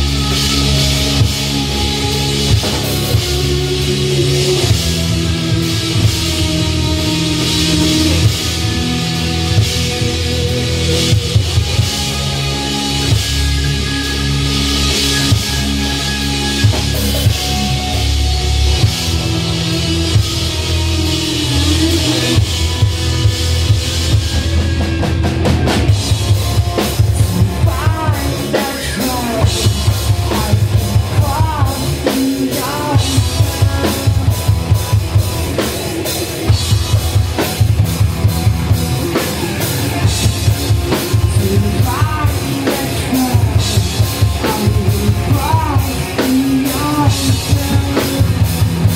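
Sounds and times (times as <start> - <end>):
driving drum beat: 0.0 - 48.9
live rock band playing: 0.0 - 48.9.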